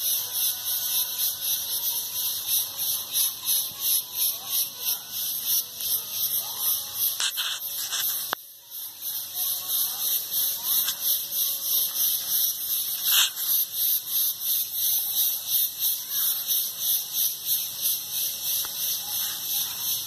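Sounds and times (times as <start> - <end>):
pulsing insect chorus: 0.0 - 20.0.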